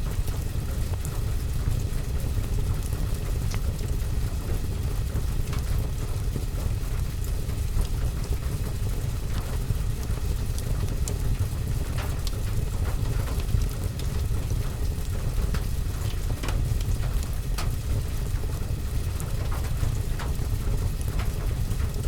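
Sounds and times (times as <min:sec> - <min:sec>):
rain pattering on window: 0:00.0 - 0:22.0.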